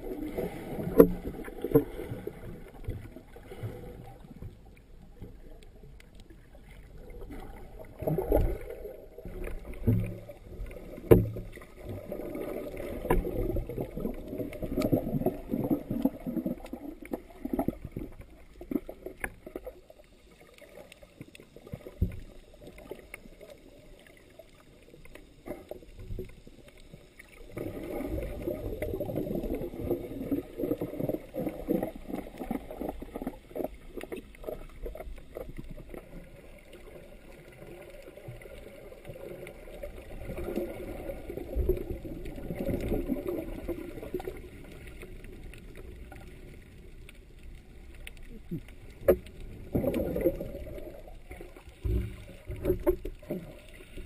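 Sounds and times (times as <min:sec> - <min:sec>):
underwater water sloshing: 0:00.0 - 0:54.0.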